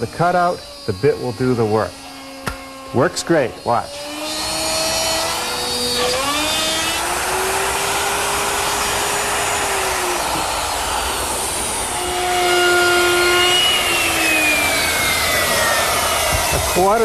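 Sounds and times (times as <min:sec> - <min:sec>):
high whine sliding downward: 0:00.0 - 0:17.0
router motor whining: 0:00.0 - 0:17.0.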